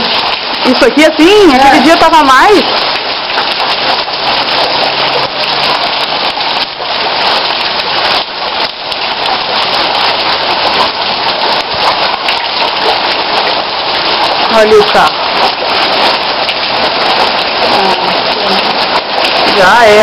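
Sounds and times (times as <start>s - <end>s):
heavy rain pouring on street: 0.0s - 20.0s.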